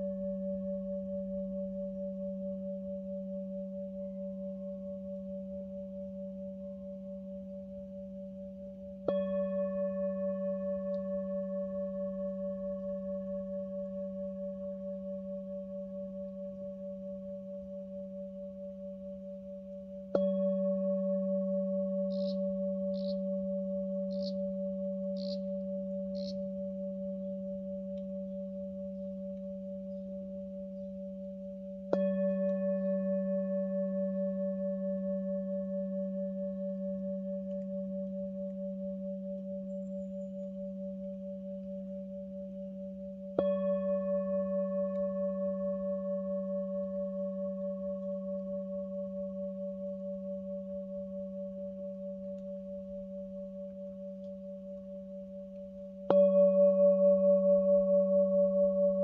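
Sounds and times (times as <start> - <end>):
singing bowl ringing: 0.0 - 59.0.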